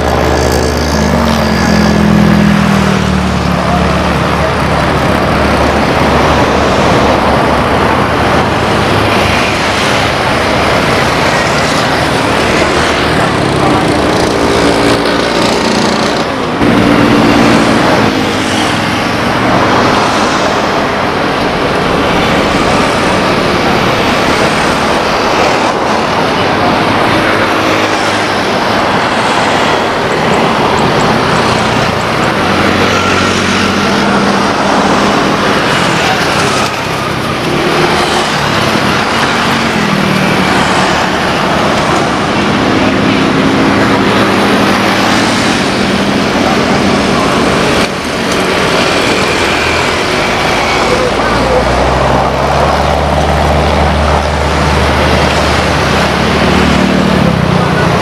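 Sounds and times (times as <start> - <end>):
loud engine drone: 0.0 - 58.0.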